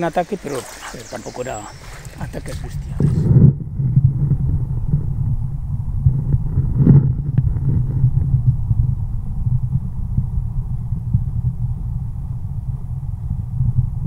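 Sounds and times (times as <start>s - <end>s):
muffled underwater river rushing: 0.0s - 14.0s.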